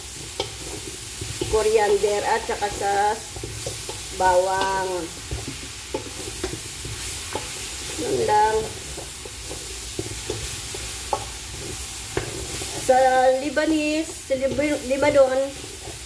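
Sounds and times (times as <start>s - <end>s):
leaves sizzling in pot: 0.0s - 16.0s
wooden spoon knocking and scraping pot: 0.0s - 16.0s.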